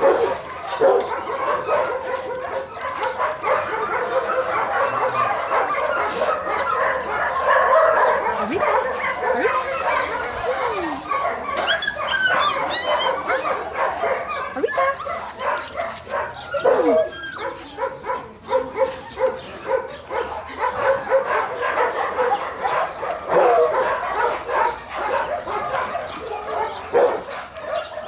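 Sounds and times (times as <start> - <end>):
puppies whimpering: 0.0 - 28.0
puppies yapping: 0.0 - 28.0.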